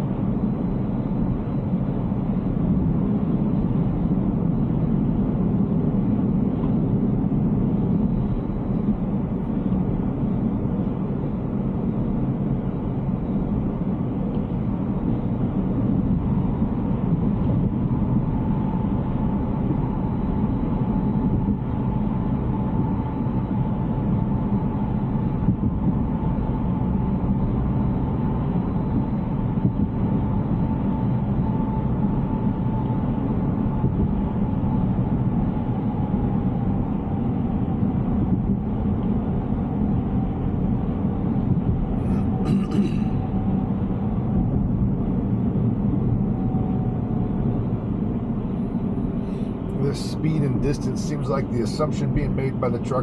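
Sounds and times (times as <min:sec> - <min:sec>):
faint whine dropping in pitch: 0:00.0 - 0:53.0.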